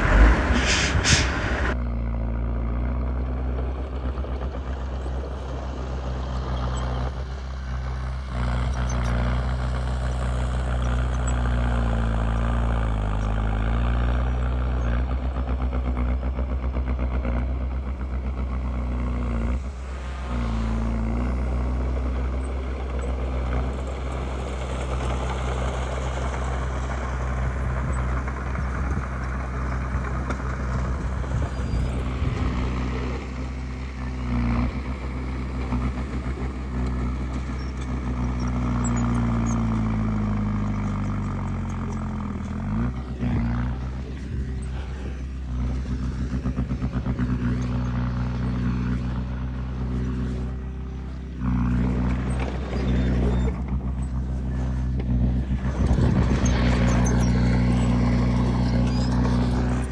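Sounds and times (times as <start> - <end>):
diesel engine of heavy machine: 0.0 - 59.9.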